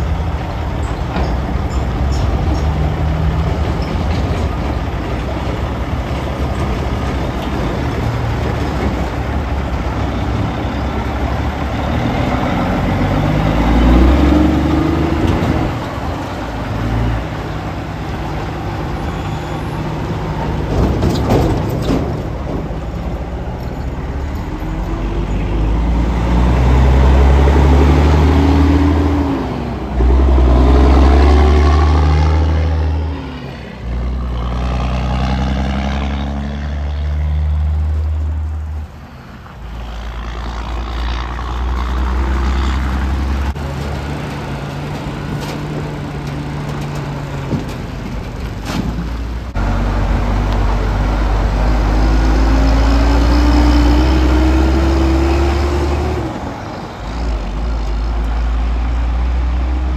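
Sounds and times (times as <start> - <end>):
diesel truck engines accelerating: 0.0 - 59.9.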